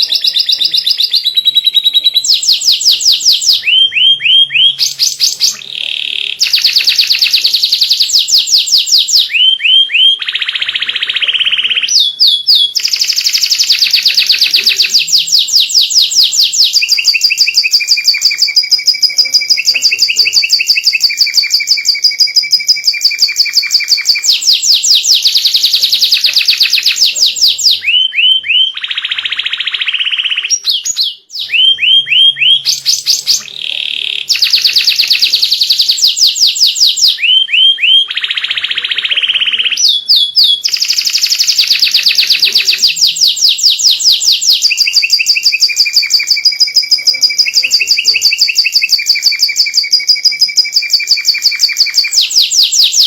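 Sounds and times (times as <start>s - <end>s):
canary singing rapid trills: 0.0s - 53.0s.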